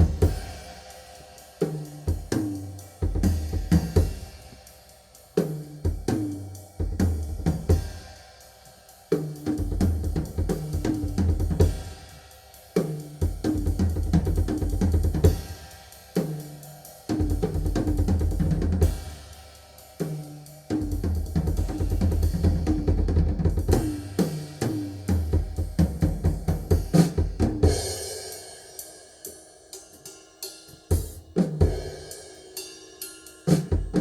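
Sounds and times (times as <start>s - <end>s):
music with drums and heavy bass: 0.0s - 29.0s, 29.7s - 34.0s.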